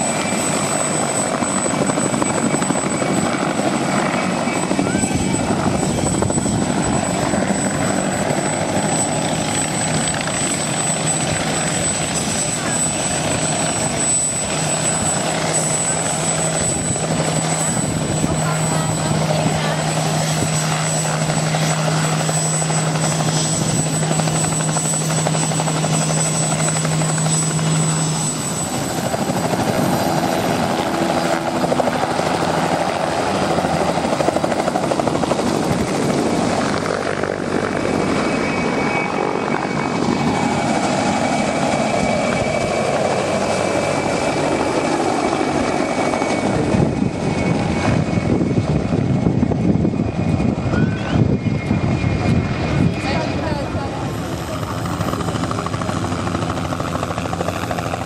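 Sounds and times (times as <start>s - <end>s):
helicopters flying low: 0.0s - 58.0s.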